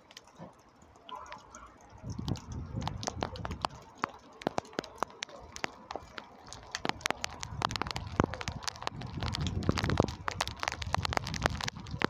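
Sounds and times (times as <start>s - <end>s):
raindrops striking hard surfaces: 0.0s - 12.0s.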